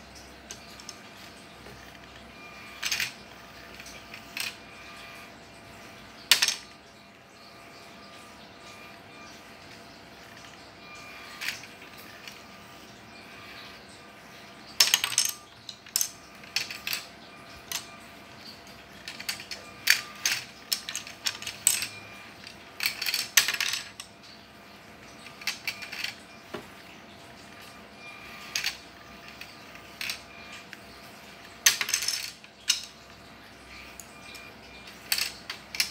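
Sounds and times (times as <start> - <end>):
plastic gears clicking and rattling: 0.4 - 5.4, 6.0 - 24.4, 25.0 - 26.8, 27.4 - 35.9.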